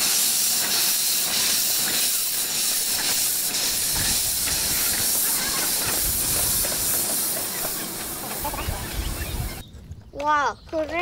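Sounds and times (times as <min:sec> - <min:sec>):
steam venting hiss: 0:00.0 - 0:09.6.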